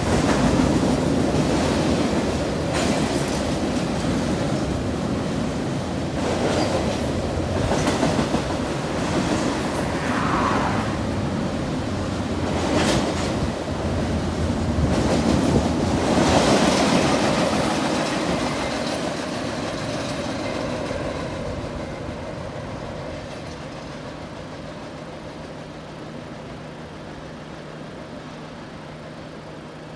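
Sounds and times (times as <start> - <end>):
train wheels clicking over track: 0.0 - 10.0, 12.1 - 27.2.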